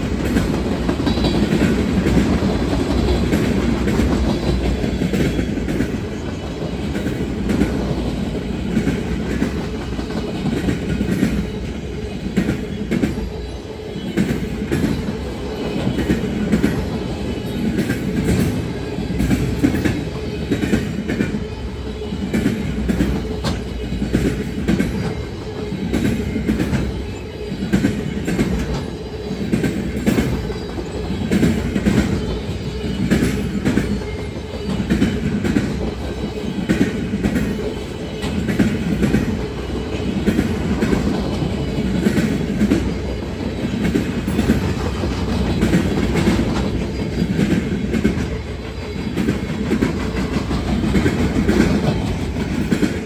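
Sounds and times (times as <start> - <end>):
train wheels rumbling on rail: 0.0 - 53.0
wheels clacking over rail joints: 0.0 - 53.0.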